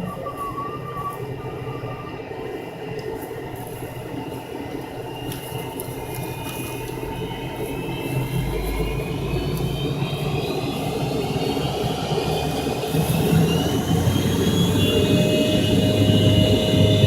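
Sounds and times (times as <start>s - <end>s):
jet engines spooling up whine: 0.0s - 17.0s
low engine rumble: 0.0s - 17.0s.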